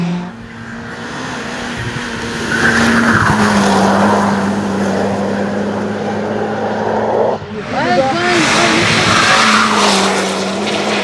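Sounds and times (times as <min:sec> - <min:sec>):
tyres skidding: 0:00.0 - 0:11.0.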